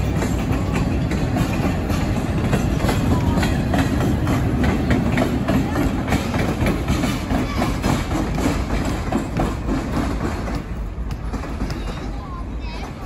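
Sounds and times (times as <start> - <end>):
train rumble: 0.0 - 13.0
train wheels clicking on tracks: 0.0 - 13.0.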